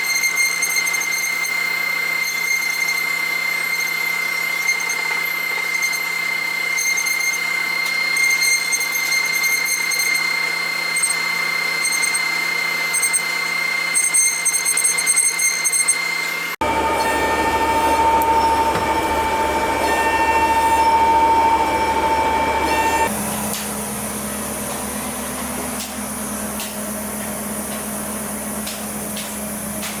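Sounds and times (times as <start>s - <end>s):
router spindle whining: 0.1s - 27.3s.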